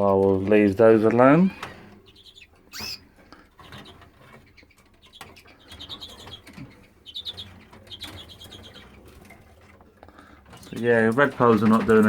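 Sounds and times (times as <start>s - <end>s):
canaries chirping: 0.0s - 12.0s
clicks and rustling in cages: 0.0s - 12.0s.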